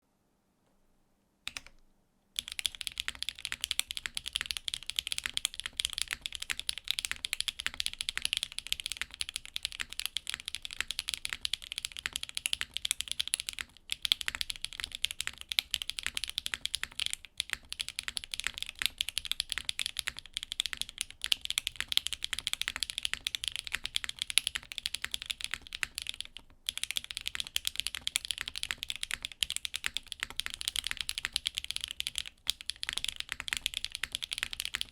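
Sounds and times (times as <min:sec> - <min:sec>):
typing on mechanical keyboard: 0:02.4 - 0:34.9.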